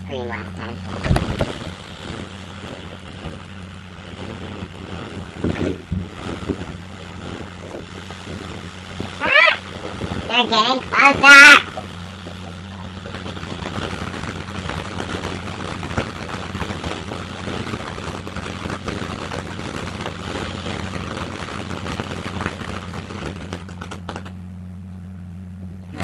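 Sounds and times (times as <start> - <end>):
firework fountain crackling hiss: 0.0 - 24.6
low hum: 0.0 - 26.0.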